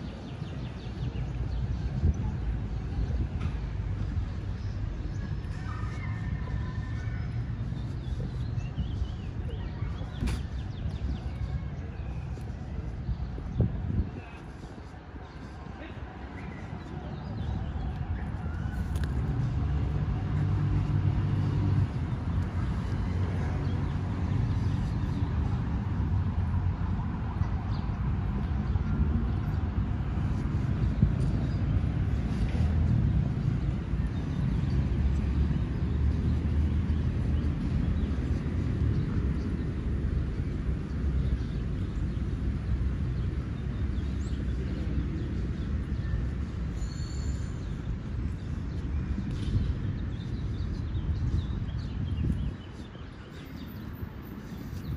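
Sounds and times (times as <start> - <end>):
low city rumble: 0.0 - 54.9.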